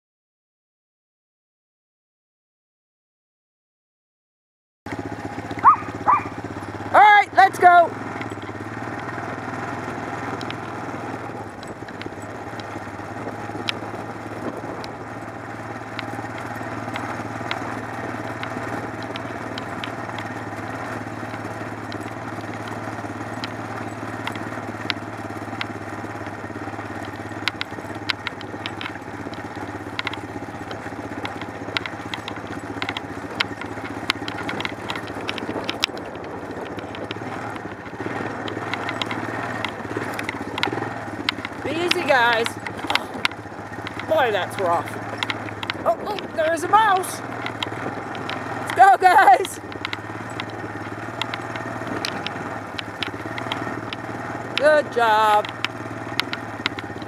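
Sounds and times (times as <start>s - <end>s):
wheels rolling on dirt: 4.9s - 57.0s
clicks and rattles: 5.2s - 57.0s.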